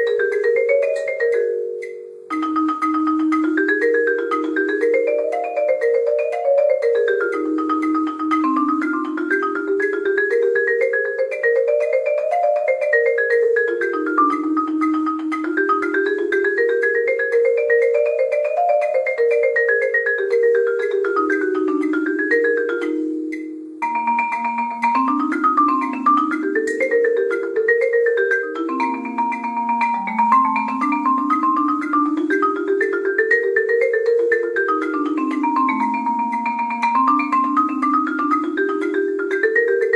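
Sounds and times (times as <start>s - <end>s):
marimba played with mallets: 0.0s - 39.9s.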